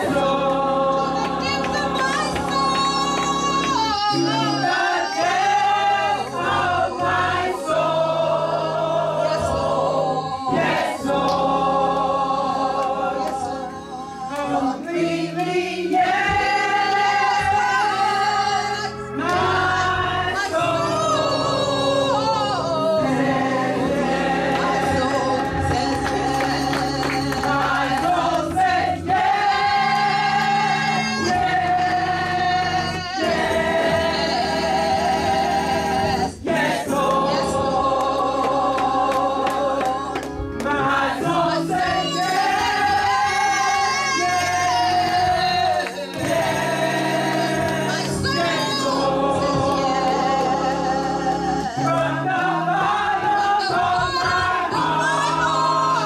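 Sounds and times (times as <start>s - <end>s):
gospel choir singing: 0.0s - 56.0s.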